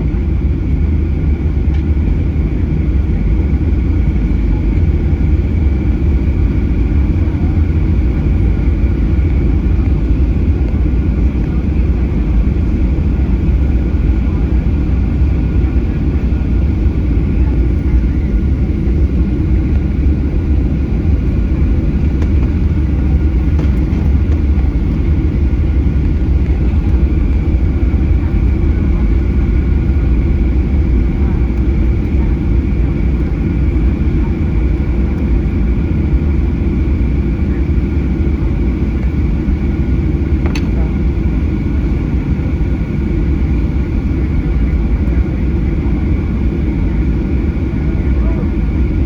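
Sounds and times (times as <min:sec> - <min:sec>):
airliner cabin engine noise: 0:00.0 - 0:49.0.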